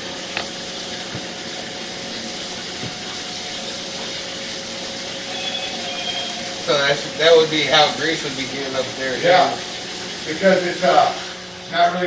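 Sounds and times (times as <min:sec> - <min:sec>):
toilet tank refilling: 0:00.0 - 0:12.0.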